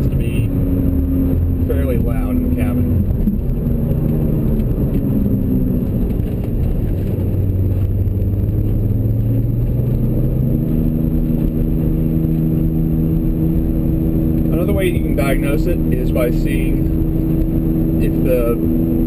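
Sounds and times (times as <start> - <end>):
road and engine noise: 0.0 - 19.0.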